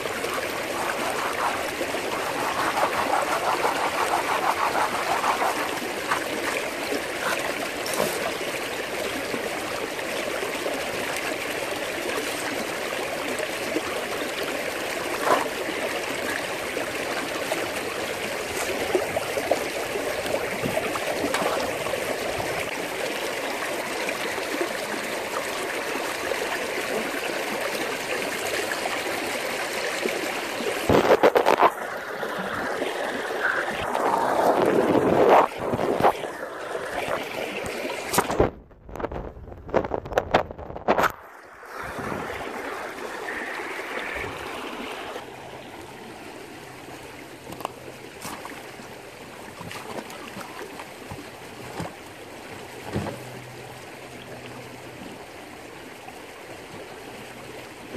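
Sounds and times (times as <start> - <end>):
water rushing through metal sluice: 0.0 - 39.1, 39.7 - 57.9.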